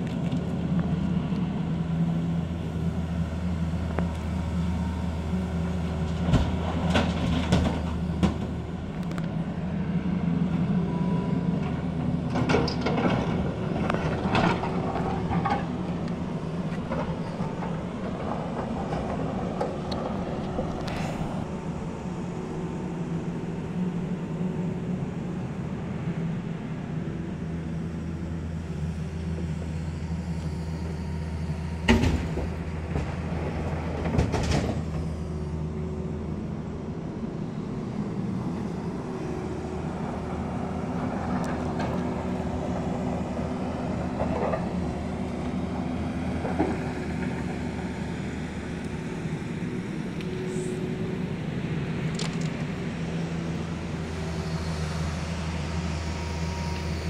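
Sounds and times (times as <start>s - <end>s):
diesel machinery humming: 0.0s - 57.0s.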